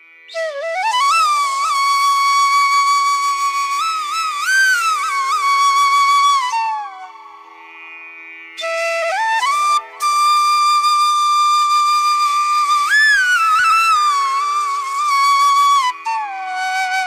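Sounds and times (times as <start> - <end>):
slow flute melody: 0.3 - 7.4, 8.6 - 17.0.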